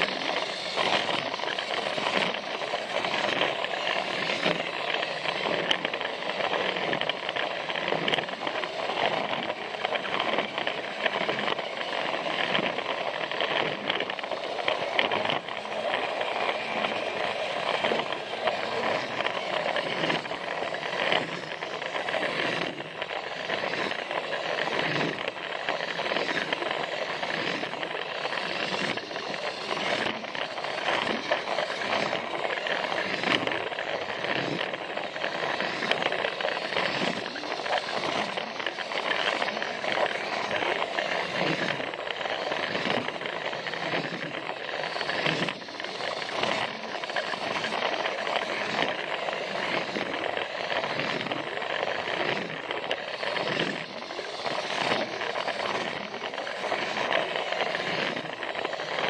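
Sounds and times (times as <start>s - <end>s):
toy train motor whirring: 0.0s - 59.0s
wheels clicking over track joints: 0.0s - 59.0s.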